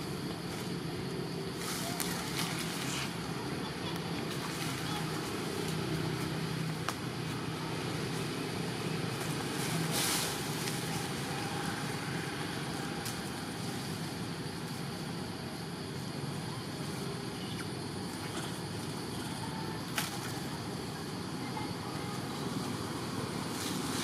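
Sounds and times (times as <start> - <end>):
distant engine drone: 0.0 - 24.0.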